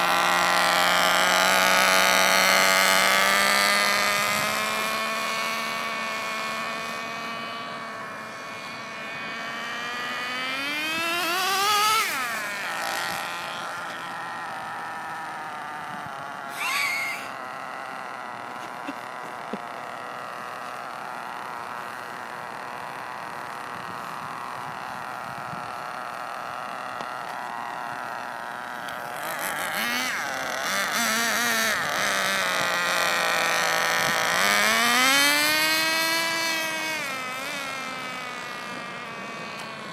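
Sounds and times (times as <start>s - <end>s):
rc car nitro engine whining: 0.0s - 39.9s.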